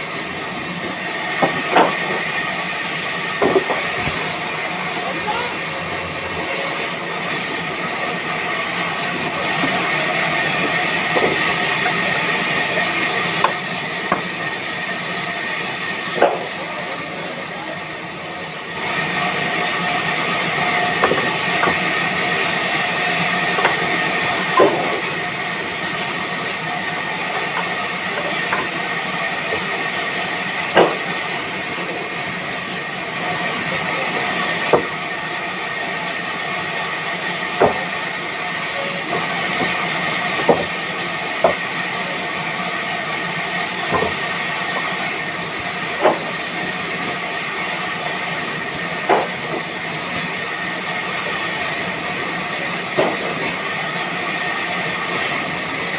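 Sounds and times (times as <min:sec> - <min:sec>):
sawmill machinery hiss and whine: 0:00.0 - 0:55.9.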